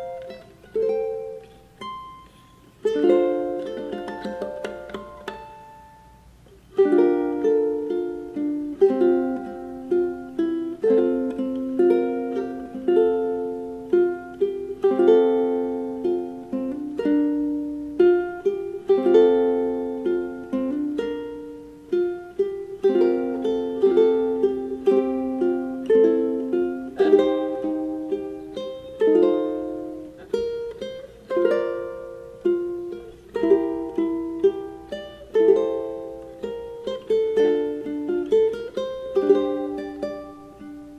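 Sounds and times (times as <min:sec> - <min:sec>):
ukulele plucked: 0:00.0 - 0:40.9.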